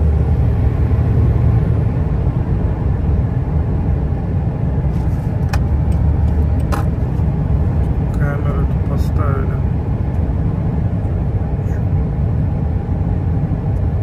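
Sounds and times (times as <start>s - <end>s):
lorry engine and tyre drone: 0.0s - 14.0s.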